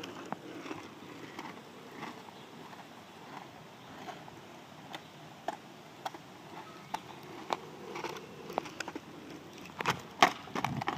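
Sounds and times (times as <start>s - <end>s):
small wheels rolling over asphalt: 0.0s - 10.9s.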